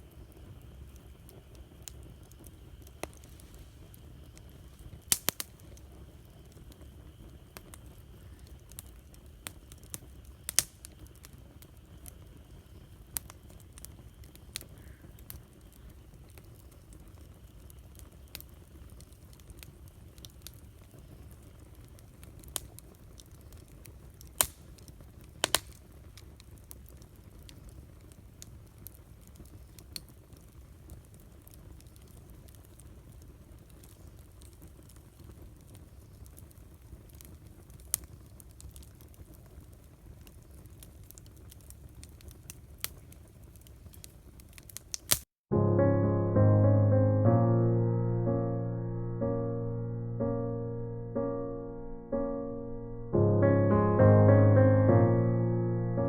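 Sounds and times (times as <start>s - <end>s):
campfire crackling and popping: 0.0s - 45.3s.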